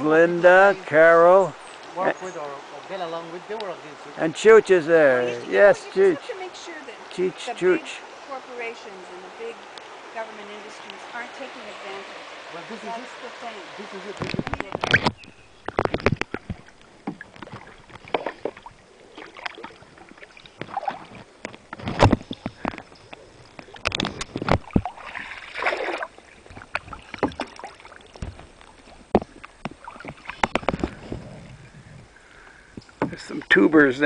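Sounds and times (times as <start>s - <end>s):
paddles splashing in river water: 0.0s - 33.6s.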